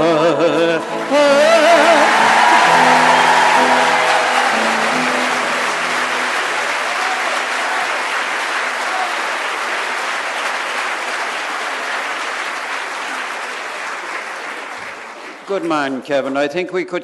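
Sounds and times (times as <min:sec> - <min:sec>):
congregation applauding: 0:00.0 - 0:16.9.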